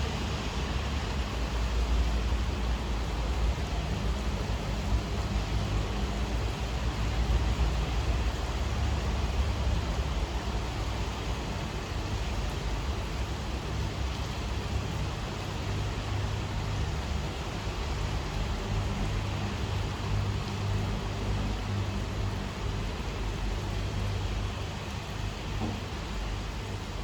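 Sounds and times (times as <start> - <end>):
steady rainfall: 0.0 - 27.0.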